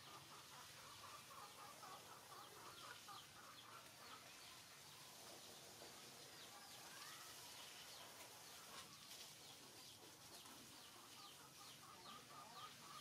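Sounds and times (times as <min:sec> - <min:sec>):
chickens clucking: 0:00.0 - 0:13.0
faint chickens chirping: 0:00.0 - 0:13.0.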